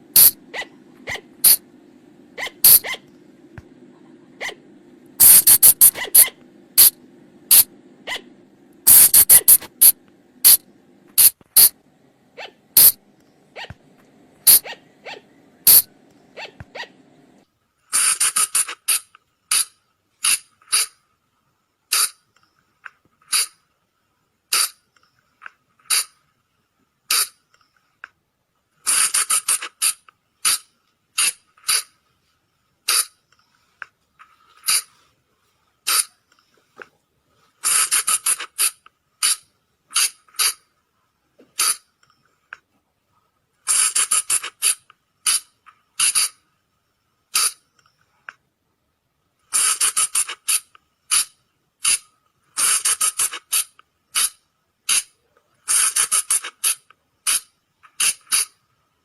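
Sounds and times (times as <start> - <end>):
low background hum: 0.0 - 49.6.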